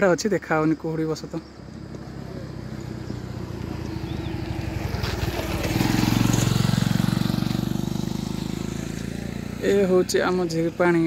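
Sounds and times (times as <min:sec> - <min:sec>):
motorcycle passing by: 0:01.4 - 0:11.0.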